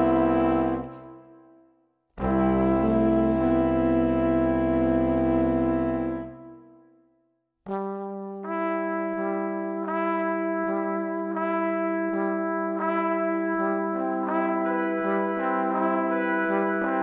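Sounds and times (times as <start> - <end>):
instrumental music with horn-like notes: 0.0 - 1.6, 2.2 - 6.9, 7.7 - 17.0.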